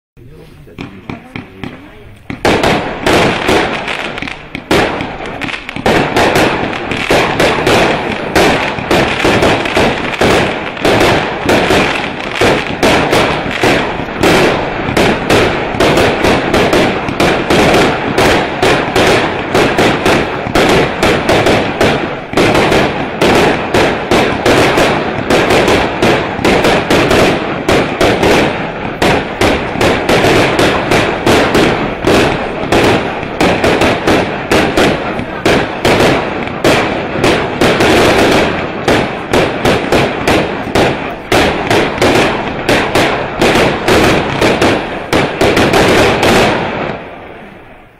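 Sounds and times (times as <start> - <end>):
firework launch thumps and bursts: 0.3 - 47.6.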